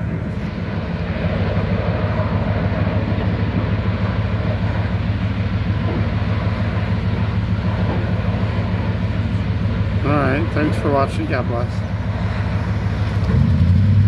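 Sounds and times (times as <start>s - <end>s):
heavy machinery droning hum: 0.0s - 14.0s.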